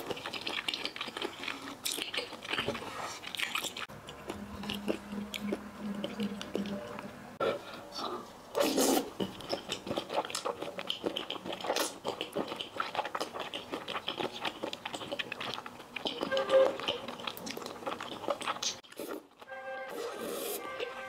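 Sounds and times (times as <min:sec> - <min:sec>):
slurping and chewing noodles: 0:00.0 - 0:21.0.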